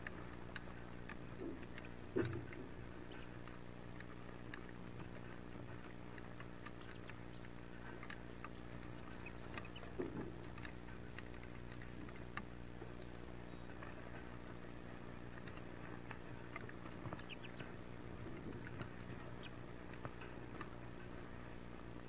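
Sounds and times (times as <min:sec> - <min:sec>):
steady low hum: 0:00.0 - 0:22.0
ducklings scratching on wood: 0:00.1 - 0:21.4.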